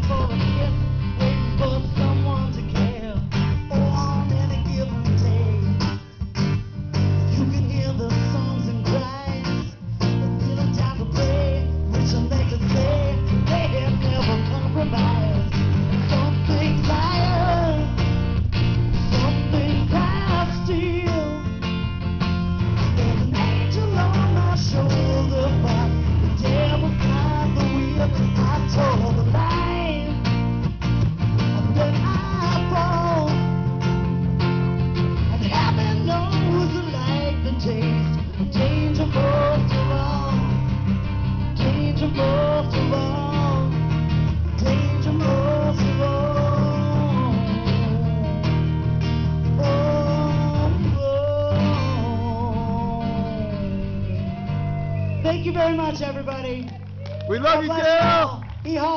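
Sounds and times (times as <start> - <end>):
live blues-rock band playing: 0.0 - 57.3
lead guitar: 0.0 - 58.9.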